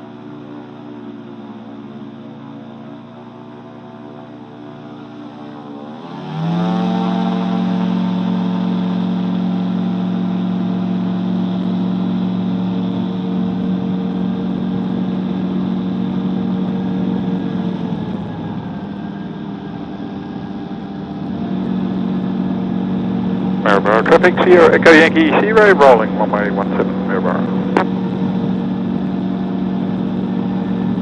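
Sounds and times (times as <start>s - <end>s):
light aircraft engine at full power: 0.0s - 31.0s.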